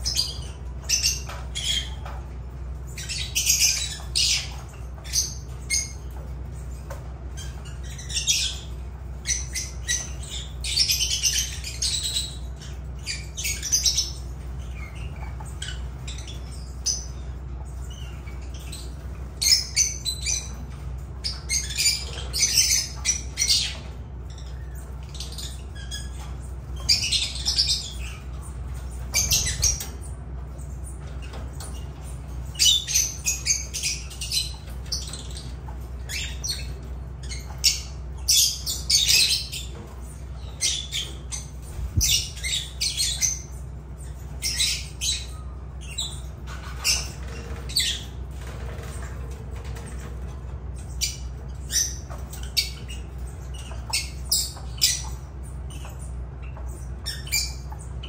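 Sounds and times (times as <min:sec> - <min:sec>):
lovebirds chirping and squawking: 0:00.0 - 0:58.0
steady low hum: 0:00.0 - 0:58.0.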